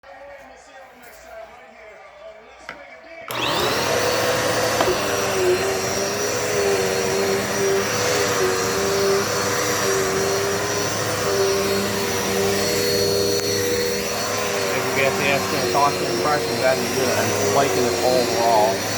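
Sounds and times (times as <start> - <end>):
vacuum cleaner motor whine: 3.3 - 18.9
vacuum cleaner rushing air: 3.3 - 18.9.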